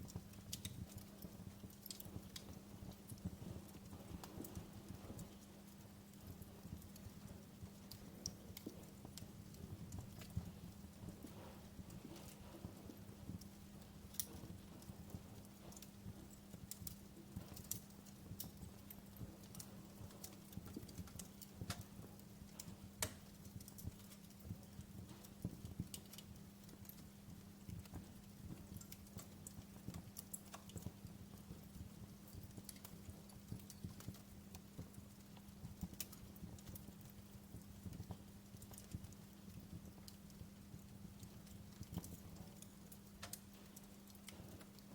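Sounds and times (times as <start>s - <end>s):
faint steady hum: 0.0s - 44.9s
wood fire crackling: 0.0s - 44.9s.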